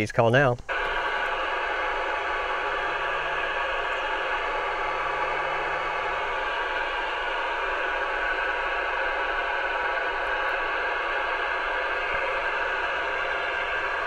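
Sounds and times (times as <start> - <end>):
radio receiver static hiss: 0.0 - 14.0.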